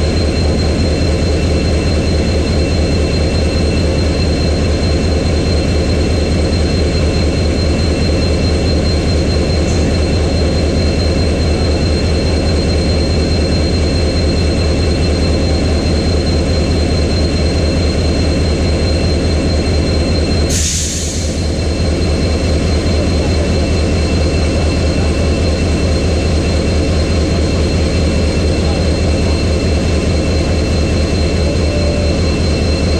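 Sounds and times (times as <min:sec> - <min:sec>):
locomotive engine idling: 0:00.0 - 0:32.9.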